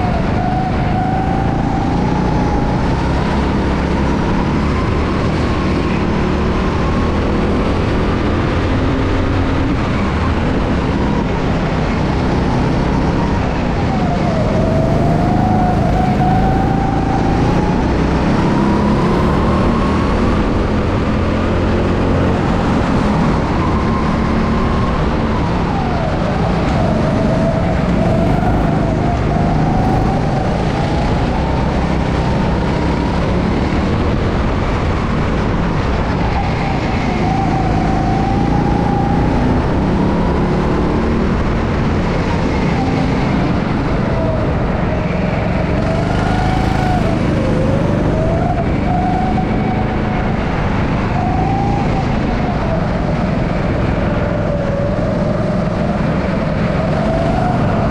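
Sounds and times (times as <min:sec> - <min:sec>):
go-kart engine accelerating: 0:00.0 - 0:57.9
steady rumble and rushing: 0:00.0 - 0:57.9.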